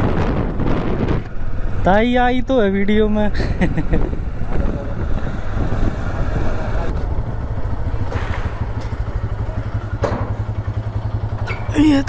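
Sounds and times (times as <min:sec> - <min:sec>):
motorcycle engine idling: 0:01.3 - 0:12.0.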